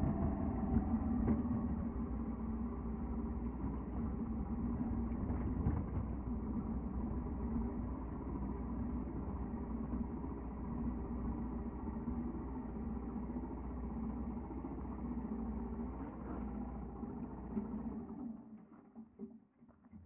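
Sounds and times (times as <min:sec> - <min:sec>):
motorcycle engine running steadily: 0:00.0 - 0:18.2.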